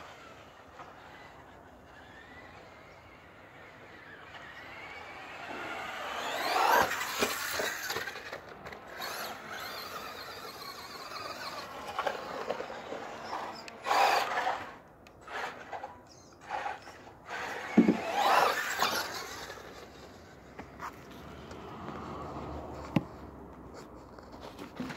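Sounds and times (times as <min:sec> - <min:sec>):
toy truck electric motor whining: 0:00.0 - 0:21.3.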